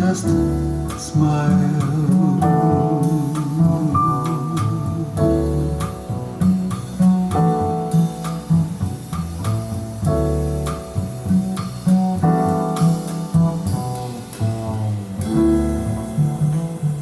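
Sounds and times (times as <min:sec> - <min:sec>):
acoustic guitar playing: 0:00.0 - 0:17.0
low bass line: 0:00.0 - 0:17.0.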